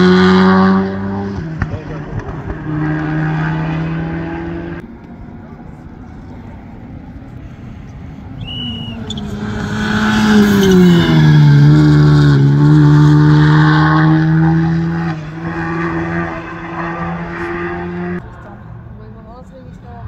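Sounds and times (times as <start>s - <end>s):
rally car engine passing by: 0.0s - 18.6s.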